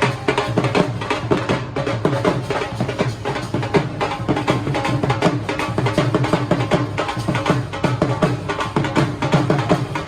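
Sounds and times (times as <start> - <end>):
dhol drumming: 0.0 - 10.0.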